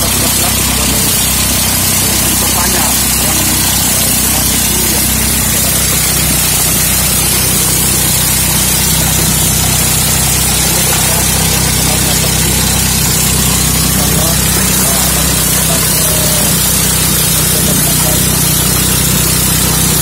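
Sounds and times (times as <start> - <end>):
corn shelling hiss: 0.0 - 20.0
engine drone: 0.0 - 20.0.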